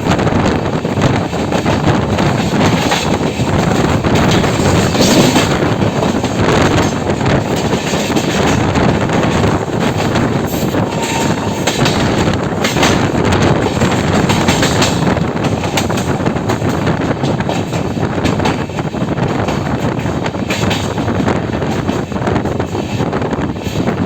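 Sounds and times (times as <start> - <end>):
train running rumble: 0.0 - 24.0
wheels clattering over rail joints: 1.4 - 23.3.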